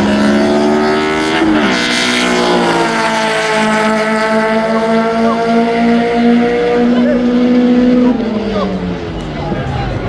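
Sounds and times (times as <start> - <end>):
race car engines accelerating: 0.0 - 10.0.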